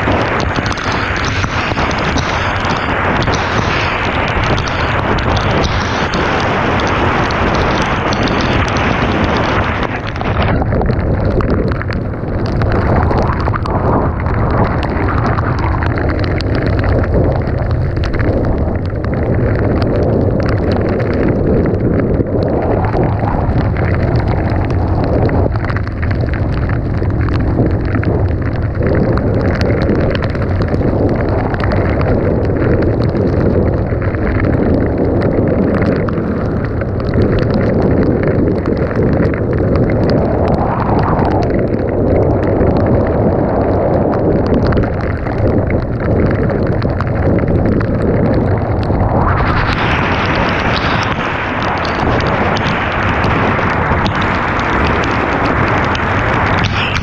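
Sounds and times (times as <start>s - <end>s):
sharp crackles: 0.0s - 57.0s
wind buffeting microphone: 0.0s - 57.0s.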